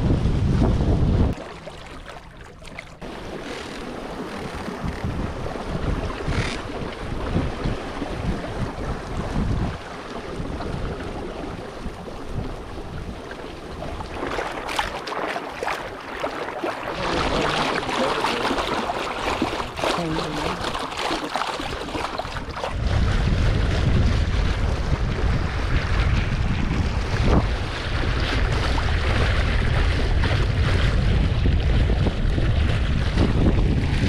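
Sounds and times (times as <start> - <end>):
wind buffeting microphone: 0.0 - 1.7, 3.0 - 34.0
water rushing along boat hull: 0.0 - 34.0.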